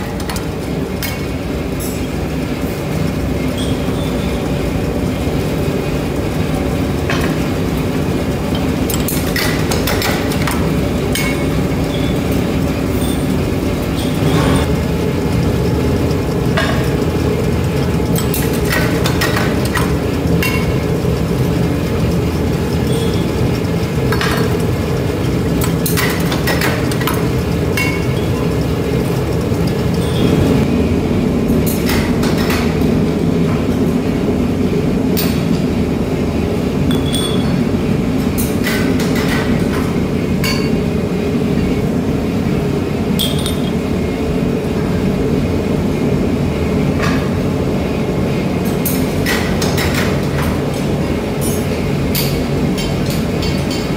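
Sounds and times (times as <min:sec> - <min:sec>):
forging machinery running: 0:00.0 - 0:53.9.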